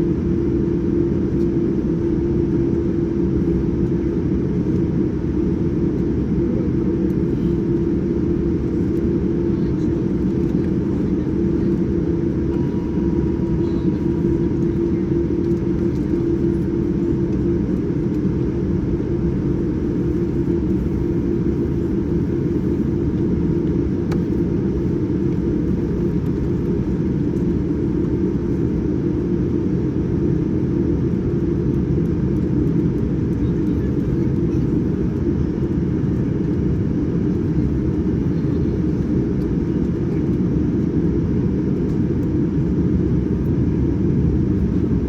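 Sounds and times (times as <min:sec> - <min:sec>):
airliner cabin rumble: 0:00.0 - 0:45.0.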